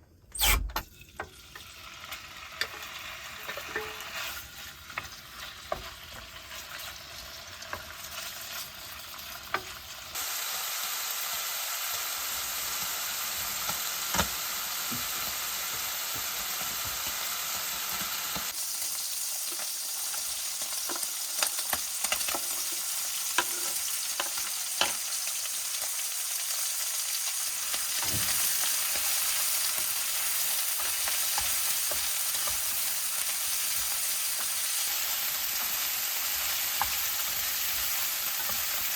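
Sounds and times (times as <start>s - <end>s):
food sizzling: 0.4s - 38.9s.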